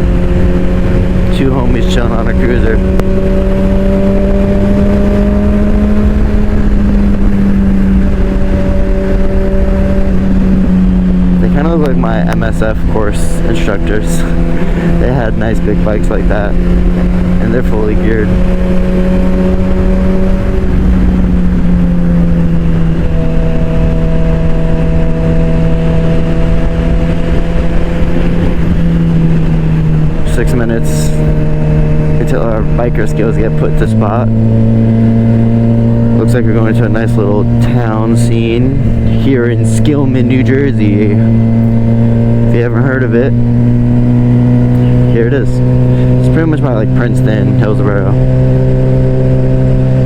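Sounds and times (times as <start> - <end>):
motorcycle engine running steadily: 0.0 - 50.0
wind rumble on microphone: 0.0 - 50.0.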